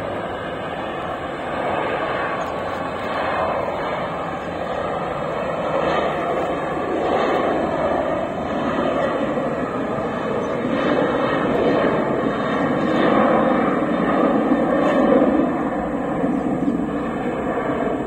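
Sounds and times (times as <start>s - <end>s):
distant jet engines rushing: 0.0s - 18.0s.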